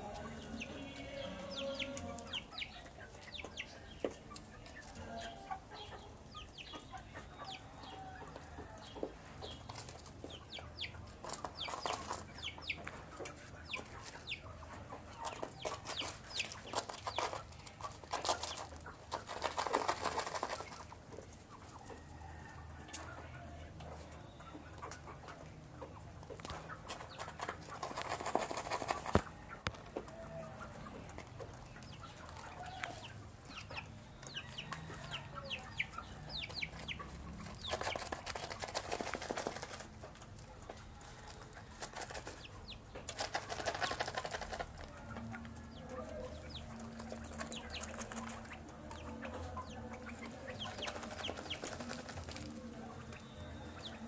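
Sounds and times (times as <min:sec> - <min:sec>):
beaks pecking at feed: 0:00.0 - 0:54.0
chicks clucking and cheeping: 0:00.0 - 0:54.0.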